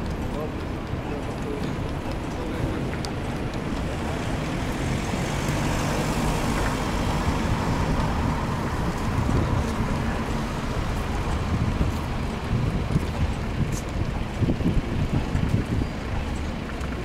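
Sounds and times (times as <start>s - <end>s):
street traffic noise: 0.0s - 17.0s
bus driving past: 2.0s - 17.0s.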